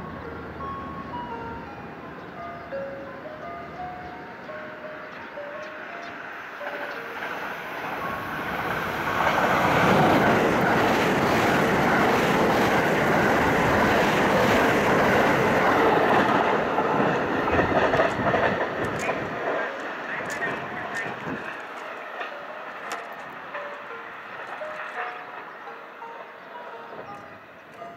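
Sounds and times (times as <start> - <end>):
electric train passing at speed: 0.0 - 27.9.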